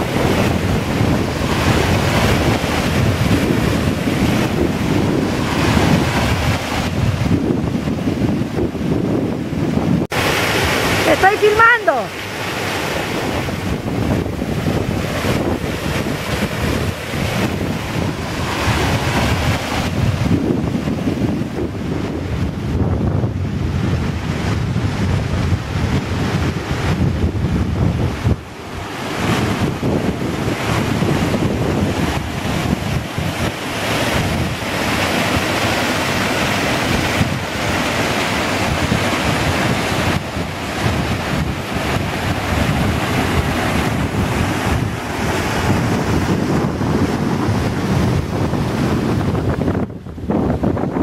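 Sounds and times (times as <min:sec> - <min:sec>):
water rushing over waterfall: 0:00.0 - 0:51.0
wind buffeting microphone: 0:00.0 - 0:51.0.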